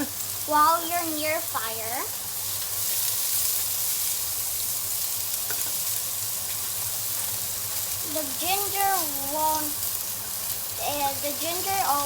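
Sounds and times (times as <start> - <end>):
ginger sizzling in hot oil: 0.0 - 12.0.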